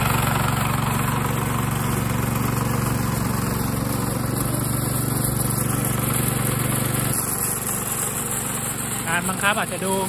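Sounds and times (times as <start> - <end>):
small petrol engine running: 0.0 - 10.0.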